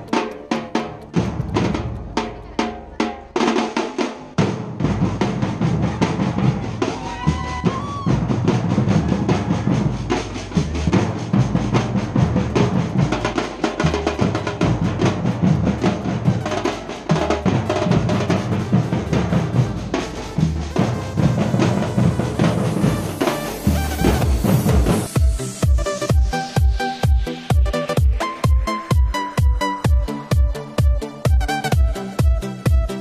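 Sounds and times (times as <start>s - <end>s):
marching drums playing: 0.0s - 33.0s.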